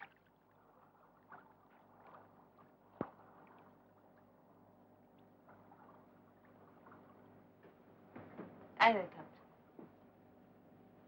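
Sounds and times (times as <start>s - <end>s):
faint water ambience: 0.0s - 11.0s.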